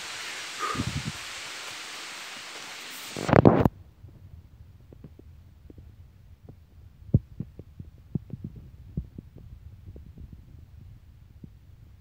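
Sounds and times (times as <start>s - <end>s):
open air sound: 0.0s - 12.0s.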